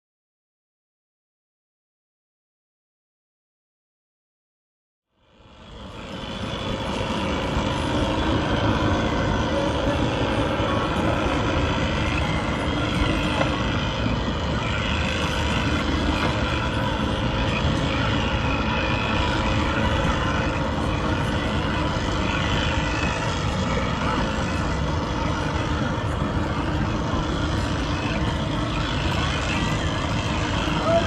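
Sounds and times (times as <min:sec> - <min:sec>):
drone of engines: 0:05.1 - 0:31.0.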